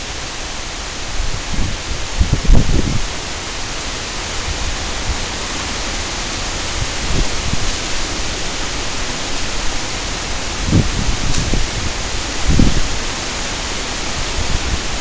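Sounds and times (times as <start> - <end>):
strong wind rushing: 1.1 - 3.4, 4.3 - 15.0
wind buffeting microphone: 1.1 - 3.6, 4.3 - 15.0.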